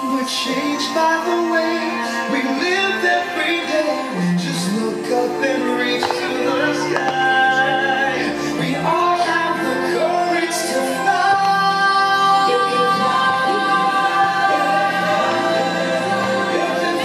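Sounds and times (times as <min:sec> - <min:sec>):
orchestral music: 0:00.0 - 0:17.0
singing: 0:00.0 - 0:17.0.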